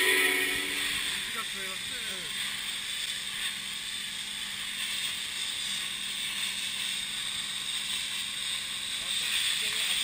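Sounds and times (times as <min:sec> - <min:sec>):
pressure washer water jet hissing: 0:00.0 - 0:10.0.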